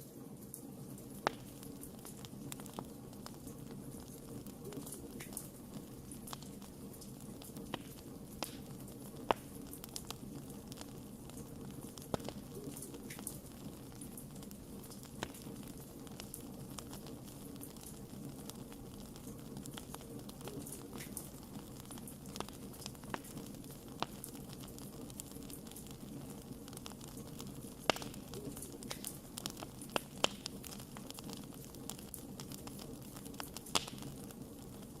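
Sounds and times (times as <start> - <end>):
burning wood crackles and pops: 0.0 - 35.0
campfire low rush: 0.0 - 35.0.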